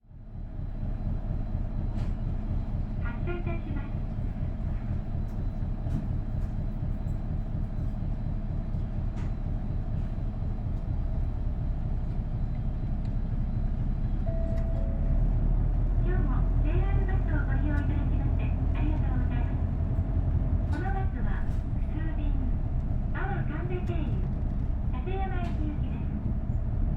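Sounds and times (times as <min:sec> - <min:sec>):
diesel bus engine running: 0:00.0 - 0:26.9.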